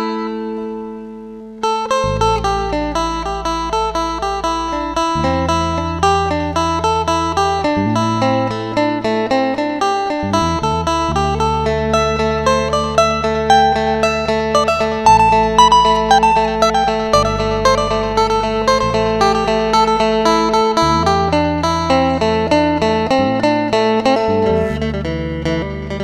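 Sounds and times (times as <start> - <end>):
plucked lute melody with drone: 0.0 - 26.0.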